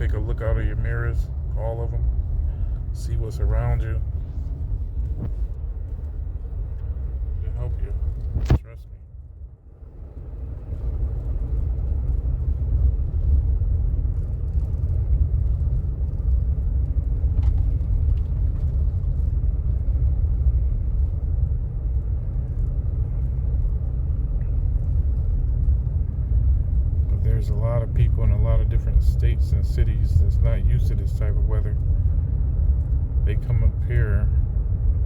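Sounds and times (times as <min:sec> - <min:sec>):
car road rumble from inside: 0:00.0 - 0:35.0.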